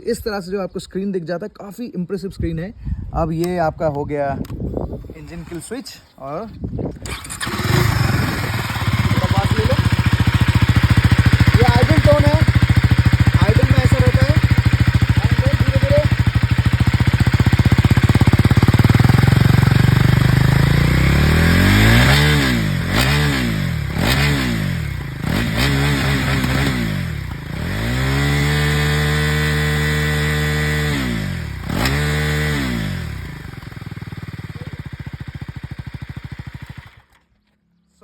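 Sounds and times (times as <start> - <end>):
motorcycle engine idling and revving: 6.9 - 37.6.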